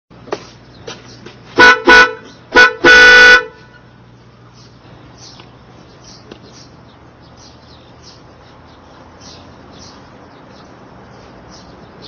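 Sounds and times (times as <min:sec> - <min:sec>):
small birds chirping: 0:00.2 - 0:01.5, 0:02.2 - 0:02.6, 0:03.6 - 0:12.0.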